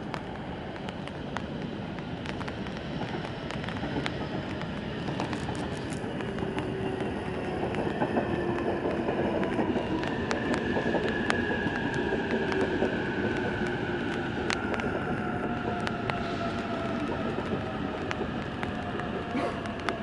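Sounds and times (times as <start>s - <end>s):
steady train whine: 0.0s - 20.0s
train wheels rumbling and clicking: 0.0s - 20.0s.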